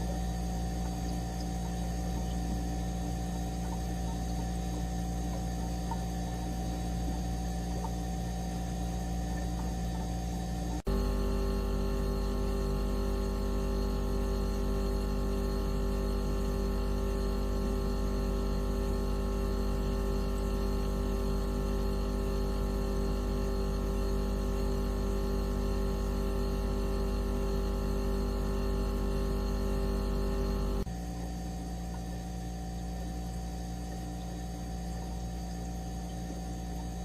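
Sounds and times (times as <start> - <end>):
steady electronic hum: 0.0 - 37.0.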